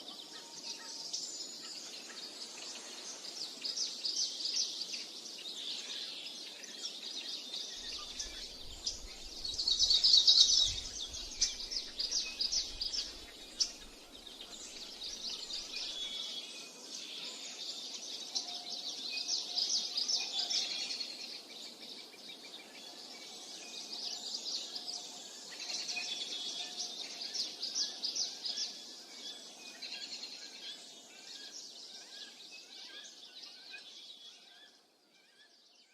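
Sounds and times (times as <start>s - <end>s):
birds chirping and singing: 0.0s - 35.9s.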